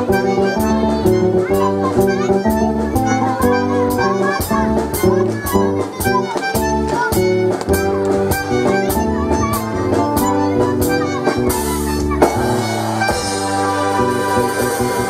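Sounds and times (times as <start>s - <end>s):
button accordion tune: 0.0s - 15.0s
steady drum beat: 0.0s - 15.0s.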